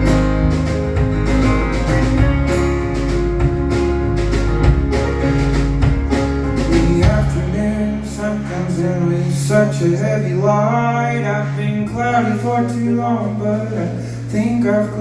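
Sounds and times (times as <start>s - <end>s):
acoustic guitar strumming: 0.0s - 15.0s
steady low notes: 0.0s - 15.0s.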